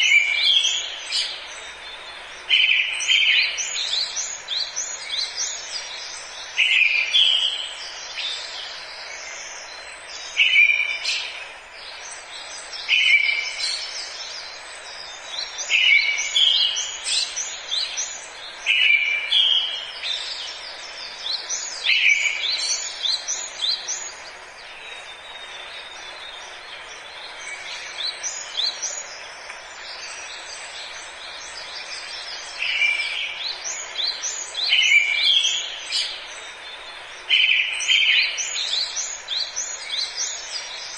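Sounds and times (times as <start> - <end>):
birds singing and chirping: 0.0 - 40.9
steady hiss: 0.0 - 40.9.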